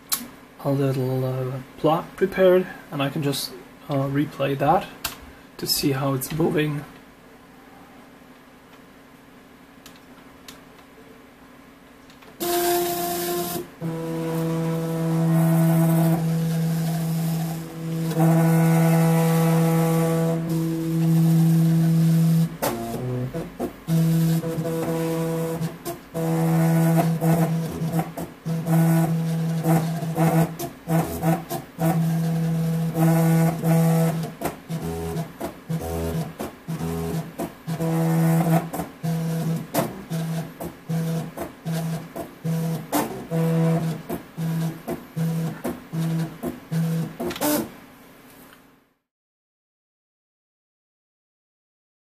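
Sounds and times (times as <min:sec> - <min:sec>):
faint hum: 0:00.0 - 0:49.0.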